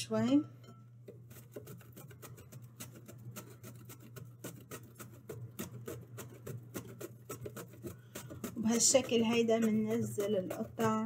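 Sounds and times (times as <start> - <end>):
knife slicing plantain: 1.1 - 11.0.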